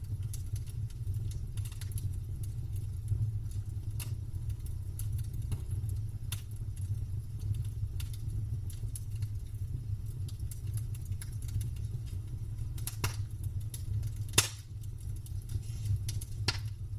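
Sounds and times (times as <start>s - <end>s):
campfire crackling: 0.0s - 16.9s.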